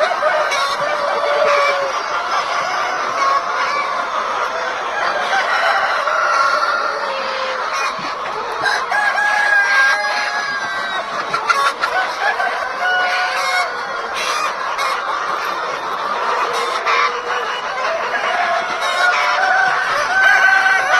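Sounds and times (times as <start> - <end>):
flock of chickens clucking: 0.0 - 20.9.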